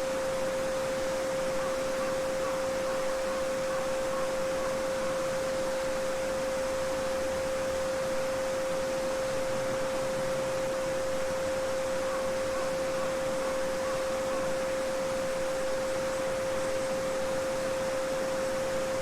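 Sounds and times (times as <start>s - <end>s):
steady pure tone: 0.0s - 19.0s.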